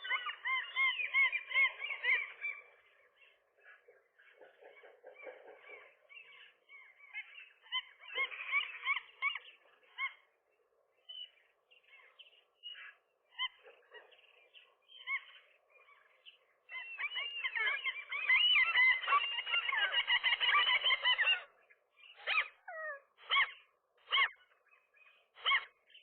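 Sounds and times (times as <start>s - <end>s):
gulls calling: 0.0s - 10.4s, 11.1s - 26.0s.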